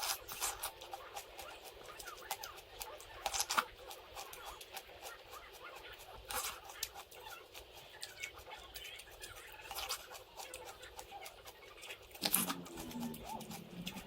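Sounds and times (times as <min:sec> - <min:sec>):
food being bitten crackling: 0:00.0 - 0:14.0.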